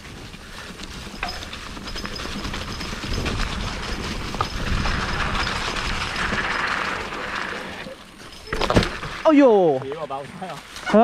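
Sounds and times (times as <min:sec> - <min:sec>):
bike rattling: 0:00.0 - 0:11.0
bike tyres on dirt trail: 0:00.0 - 0:11.0.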